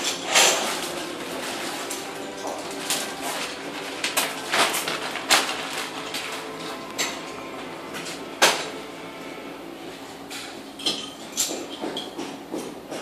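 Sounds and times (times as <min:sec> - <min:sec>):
tools clattering on concrete floor: 0:00.0 - 0:08.8, 0:10.2 - 0:13.0.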